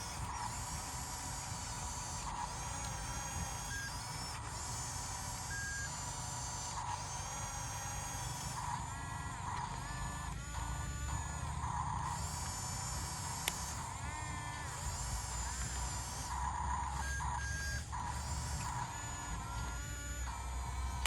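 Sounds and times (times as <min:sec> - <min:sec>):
high-pitched hydraulic whines: 0:00.0 - 0:21.0.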